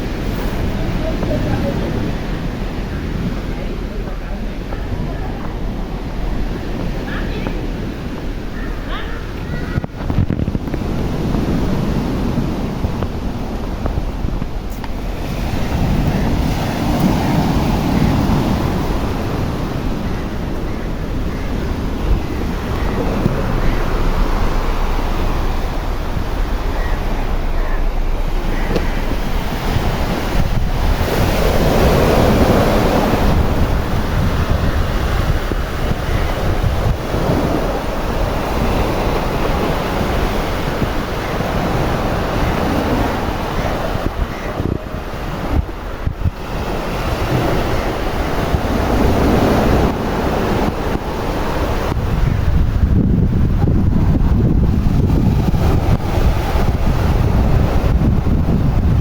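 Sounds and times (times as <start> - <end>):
waves washing on shore: 0.0 - 59.0
wind buffeting microphone: 0.0 - 59.0.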